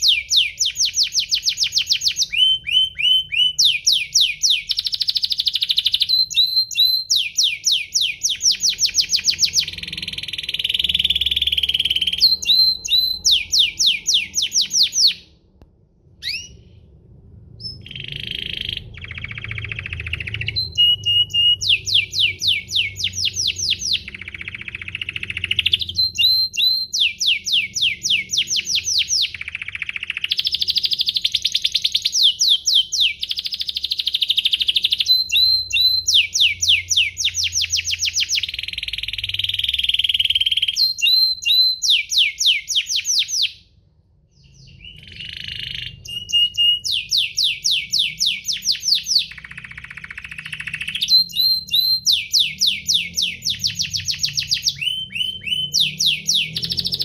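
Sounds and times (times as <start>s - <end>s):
canary singing trills: 0.0s - 15.4s, 16.2s - 16.8s, 17.6s - 57.0s.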